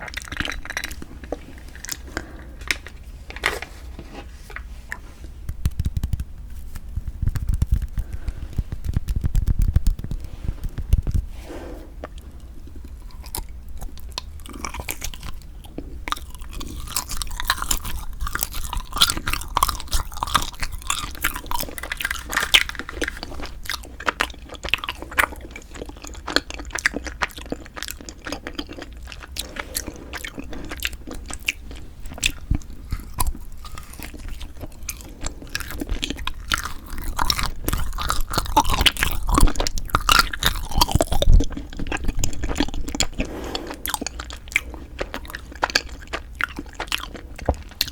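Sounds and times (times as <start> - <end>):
crisp chewing crunches: 0.0 - 3.7, 5.3 - 11.3, 12.0 - 47.9.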